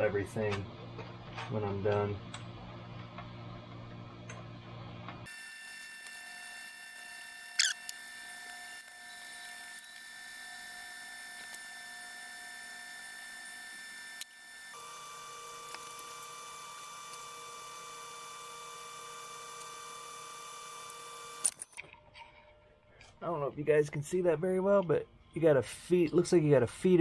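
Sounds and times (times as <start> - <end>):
high-pitched electrical hum: 0.0 - 27.0.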